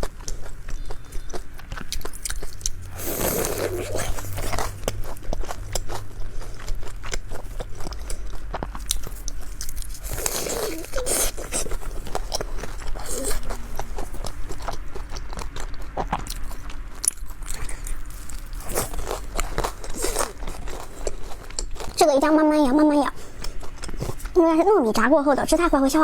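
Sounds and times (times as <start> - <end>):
crunching of fried crust: 0.0 - 24.4.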